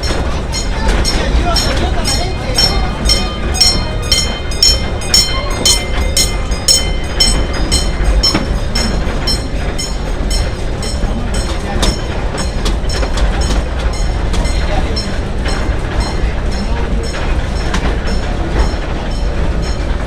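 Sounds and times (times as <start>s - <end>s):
train rumbling on track: 0.0s - 20.0s
wheels clicking over rail joints: 0.0s - 20.0s.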